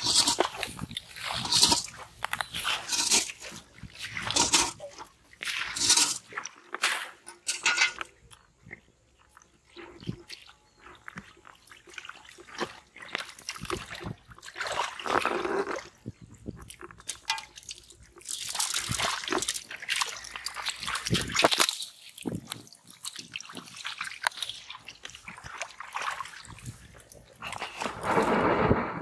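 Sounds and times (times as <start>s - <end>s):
hands squelching in mud: 0.0s - 7.2s, 8.0s - 28.2s.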